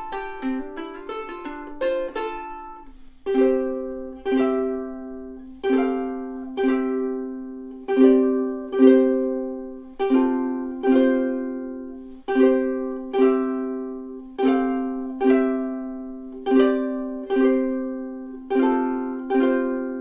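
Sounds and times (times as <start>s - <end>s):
ukulele plucking and strumming: 0.0s - 20.0s.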